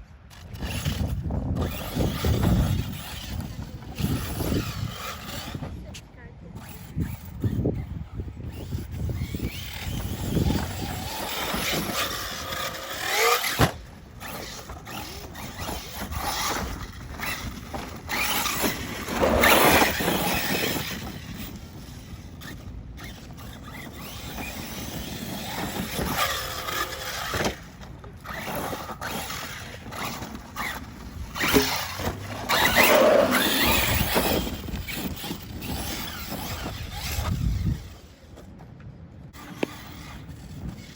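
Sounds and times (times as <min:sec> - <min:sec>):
rc truck motor whine: 0:00.0 - 0:38.5, 0:39.3 - 0:40.9
tyres on dirt: 0:00.0 - 0:40.9.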